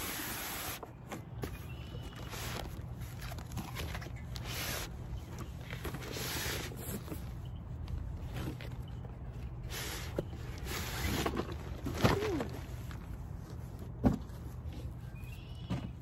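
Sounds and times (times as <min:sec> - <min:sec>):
cardboard rustling and scraping: 0:00.8 - 0:16.0.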